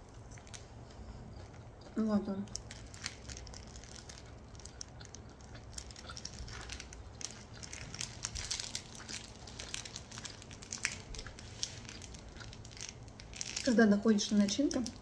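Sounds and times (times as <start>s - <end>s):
chewing crunchy food: 0.0s - 15.0s
plastic wrapper crinkling: 2.5s - 15.0s.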